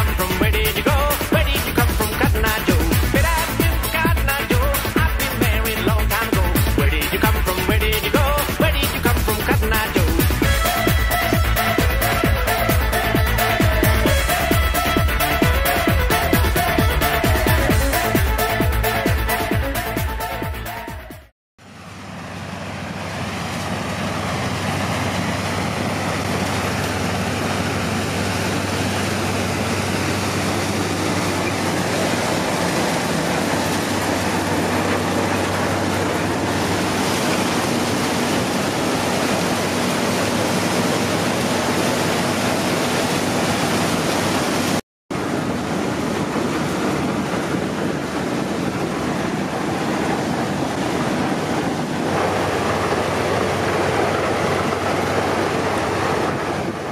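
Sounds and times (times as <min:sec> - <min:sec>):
combine harvester working: 0:00.0 - 0:20.4, 0:21.6 - 0:56.9.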